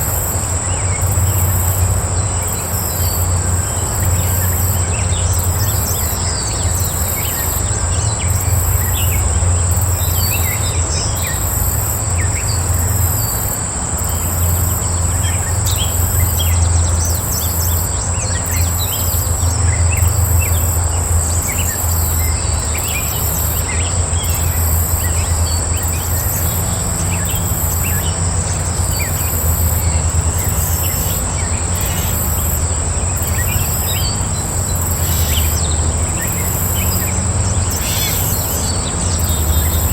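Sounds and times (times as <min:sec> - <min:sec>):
high insect buzz: 0:00.0 - 0:39.9
pulsing insect trill: 0:00.0 - 0:39.9.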